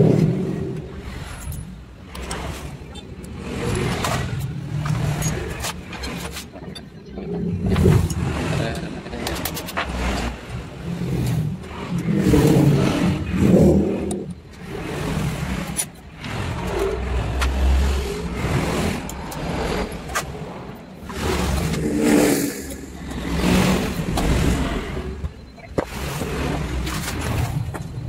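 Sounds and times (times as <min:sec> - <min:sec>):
vehicle engines running: 0:00.0 - 0:28.0.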